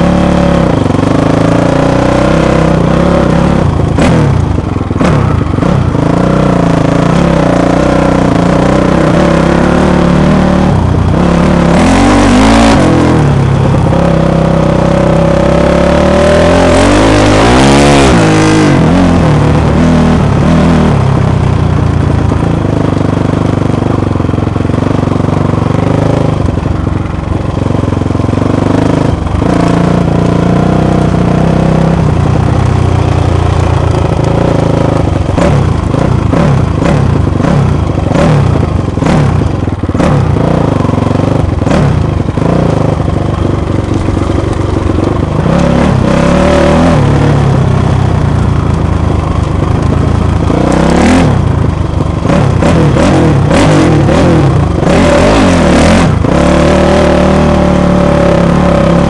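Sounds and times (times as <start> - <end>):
dirt bike engine revving: 0.0 - 21.4, 28.3 - 59.0.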